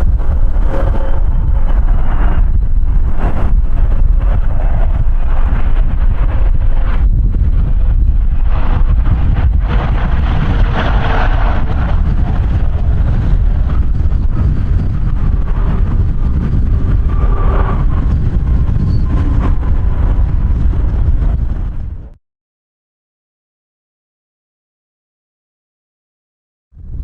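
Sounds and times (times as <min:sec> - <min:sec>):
wind buffeting microphone: 0:00.0 - 0:22.2, 0:26.8 - 0:27.0.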